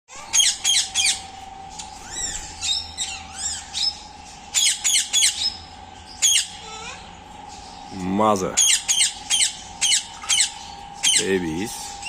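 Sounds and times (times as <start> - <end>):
parakeets chattering calls: 0.1 - 12.0
parakeets squawking: 0.1 - 12.0
steady hum: 0.1 - 12.0.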